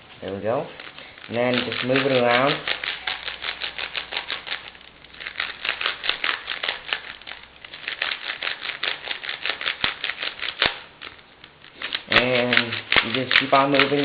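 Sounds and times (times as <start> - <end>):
puzzle cube clicking: 0.8 - 14.0.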